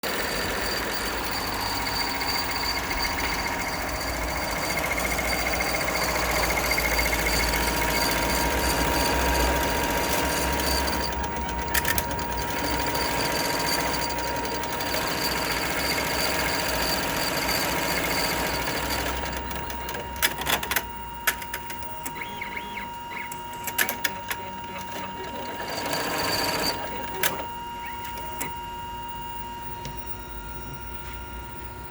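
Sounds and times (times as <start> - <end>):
sewing machine running: 0.0 - 28.6.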